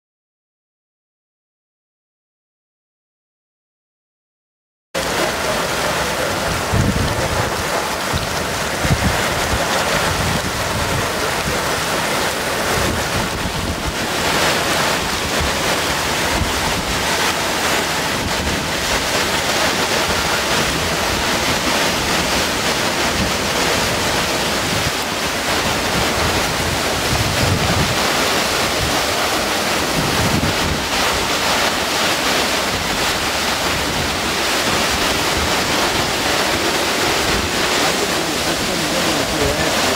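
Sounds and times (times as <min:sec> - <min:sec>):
strong winds rushing: 0:05.0 - 0:39.9
wind buffeting the microphone: 0:05.7 - 0:39.9.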